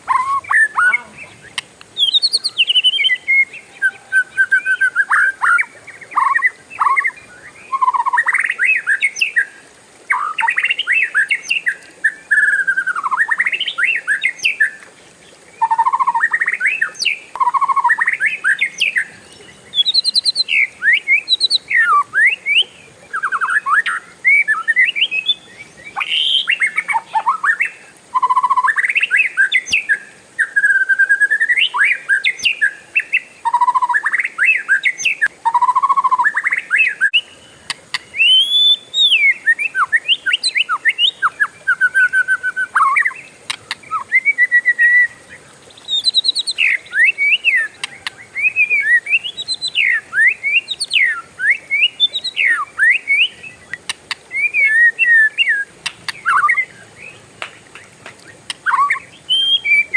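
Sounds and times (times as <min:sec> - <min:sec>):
bird singing whistles and trills: 0:00.0 - 0:14.9, 0:15.6 - 0:59.9.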